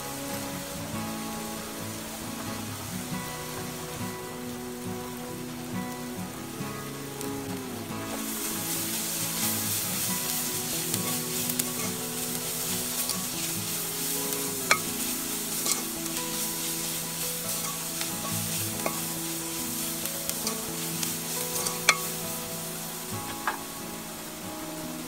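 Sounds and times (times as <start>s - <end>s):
soft background music: 0.0s - 25.0s
vegetables sizzling in a pot: 0.0s - 25.0s.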